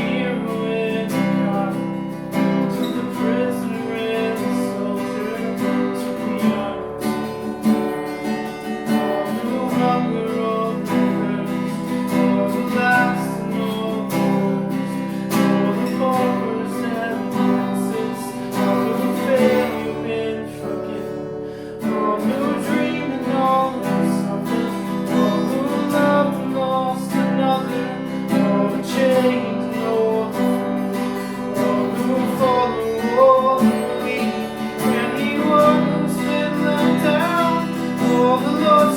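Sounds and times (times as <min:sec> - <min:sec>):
person singing: 0:00.0 - 0:38.9
strummed acoustic guitar: 0:00.0 - 0:38.9.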